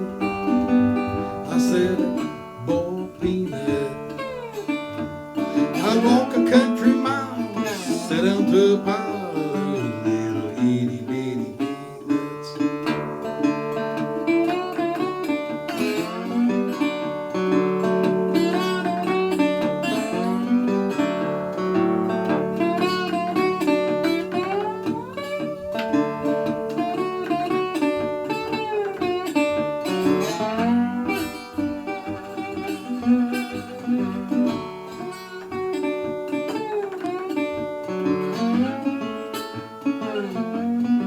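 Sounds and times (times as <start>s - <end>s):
sliding lead guitar melody: 0.0s - 41.0s
strummed acoustic guitar chords: 0.0s - 41.0s.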